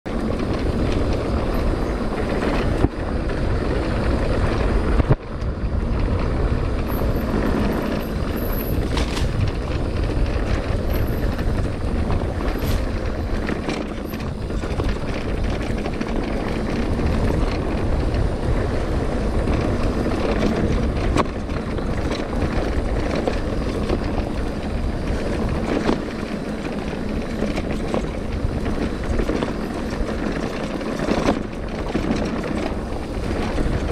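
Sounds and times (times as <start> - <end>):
bike knocks and rattles: 0.1 - 33.9
bike tyres rolling on dirt: 0.1 - 33.9
wind on microphone: 0.1 - 33.9.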